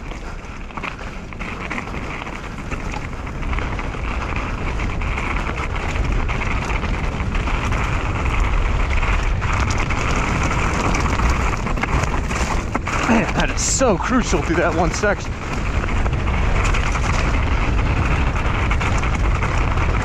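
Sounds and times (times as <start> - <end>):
bike tyres rolling over gravel: 0.0 - 20.0
wind over microphone: 0.0 - 20.0.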